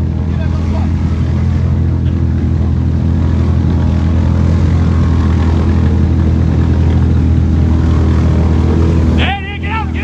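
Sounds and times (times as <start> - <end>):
wheels churning through mud: 0.0 - 10.0.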